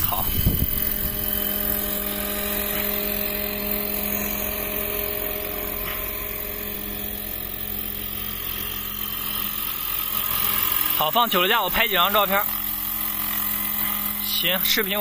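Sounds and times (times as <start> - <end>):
rc helicopter whine and rotor: 0.0 - 15.0.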